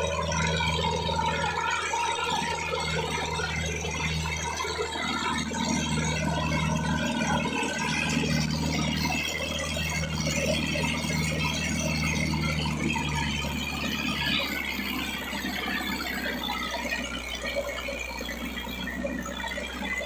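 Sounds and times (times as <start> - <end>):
tractor diesel engine labouring: 0.0 - 20.0.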